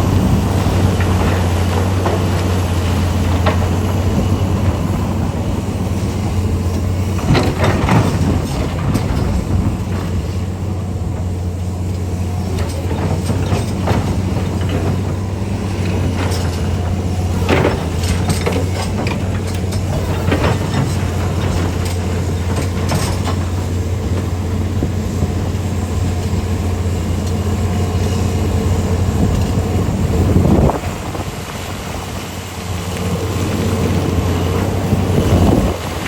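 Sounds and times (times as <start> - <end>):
rock and metal clattering: 0.0 - 32.4
heavy diesel engines droning: 0.0 - 36.0.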